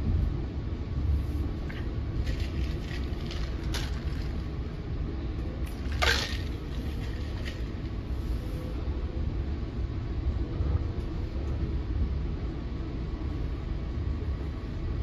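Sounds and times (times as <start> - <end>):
train rumble on rails: 0.0 - 15.0.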